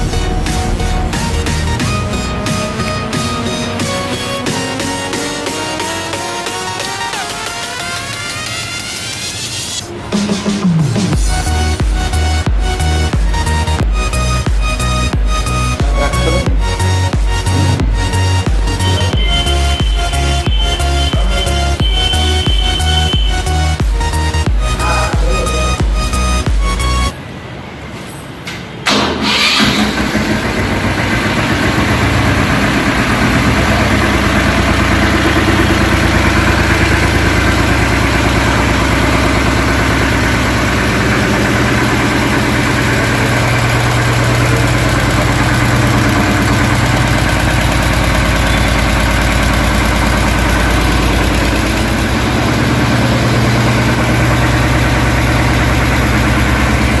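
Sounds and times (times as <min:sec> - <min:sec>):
diesel tractor engine idling: 0:00.0 - 0:08.1, 0:11.2 - 0:27.1, 0:28.8 - 0:57.0.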